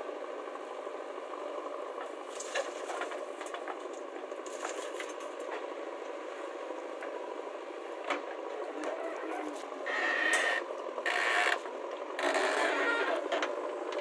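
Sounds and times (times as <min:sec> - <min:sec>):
backhoe engine running: 0:00.0 - 0:14.0.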